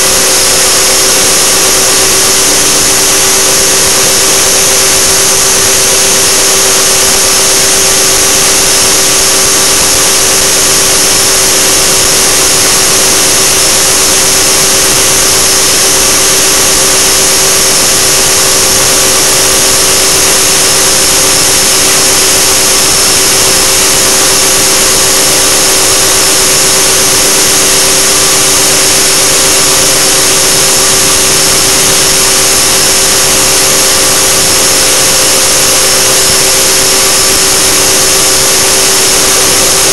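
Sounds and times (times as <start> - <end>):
helicopter motor whine: 0.0 - 39.9
loud hiss: 0.0 - 39.9.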